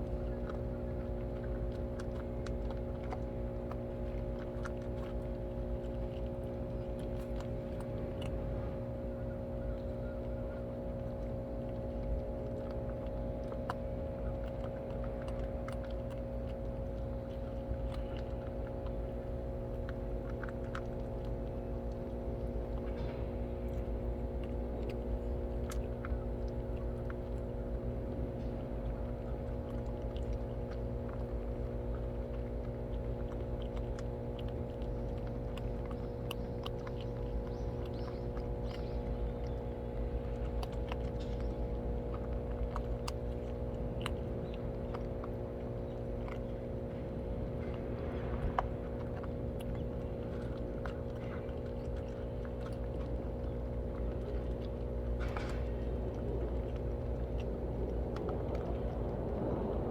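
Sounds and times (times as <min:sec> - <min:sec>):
cats chewing food: 0:00.0 - 0:59.9
low electrical hum: 0:00.0 - 0:59.9.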